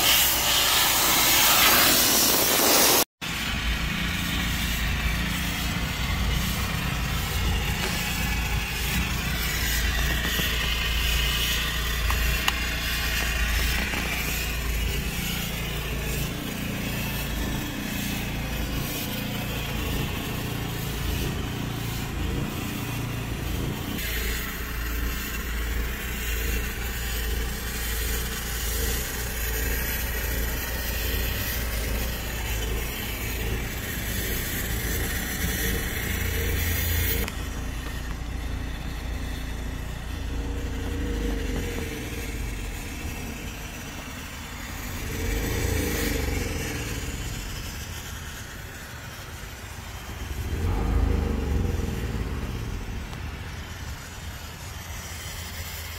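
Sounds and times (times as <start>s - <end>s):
steam cleaner motor rumble: 0.0s - 55.9s
steam hissing: 0.0s - 55.9s.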